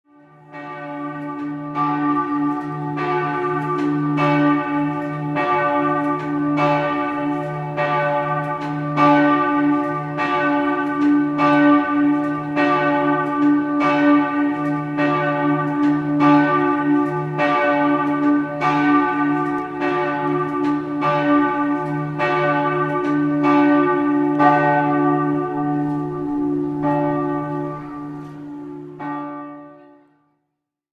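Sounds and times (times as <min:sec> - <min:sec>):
church bells tolling: 0:00.1 - 0:30.2.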